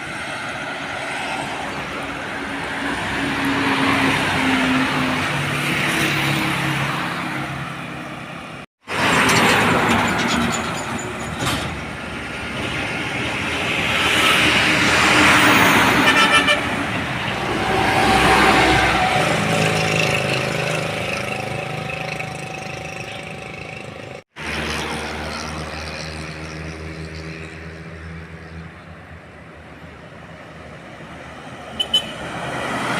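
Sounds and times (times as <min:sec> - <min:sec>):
large trucks passing: 0:00.0 - 0:32.9.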